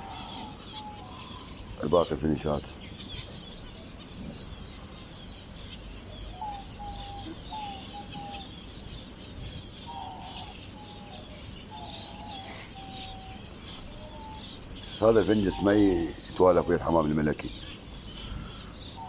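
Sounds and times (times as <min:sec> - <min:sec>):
finches chirping: 0:00.0 - 0:19.0.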